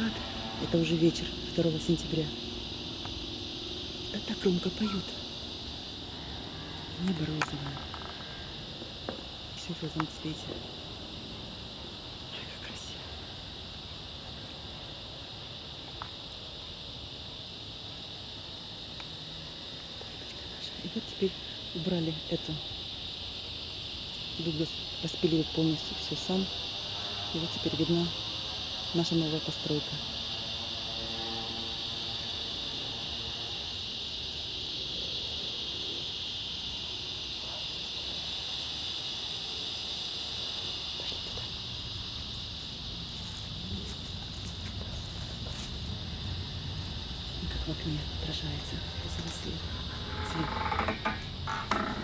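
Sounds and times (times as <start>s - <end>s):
cicadas buzzing: 0.0s - 52.0s.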